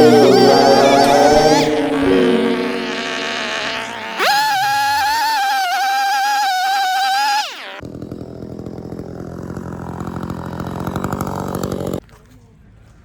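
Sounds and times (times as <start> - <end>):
chainsaw at full throttle: 0.0 - 12.0
chainsaw idling: 0.0 - 12.0.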